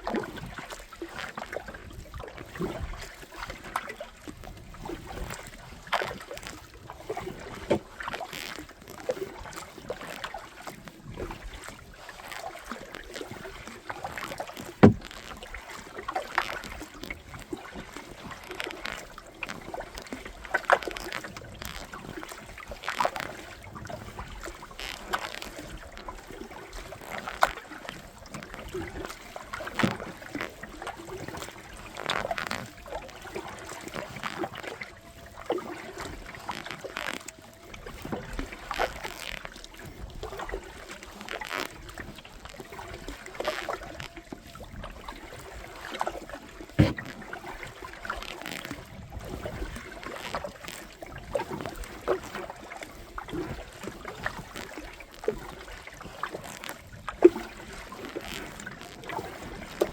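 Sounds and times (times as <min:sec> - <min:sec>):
paddle splashing in water: 0:00.0 - 0:59.9.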